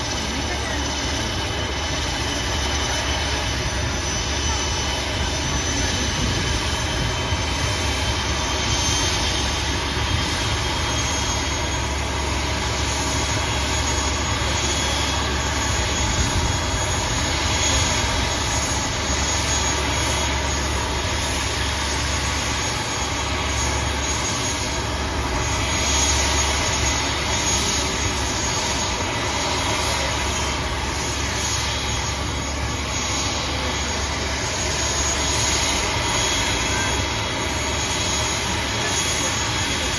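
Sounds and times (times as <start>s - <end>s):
turbine whine and rumble: 0.0s - 39.9s.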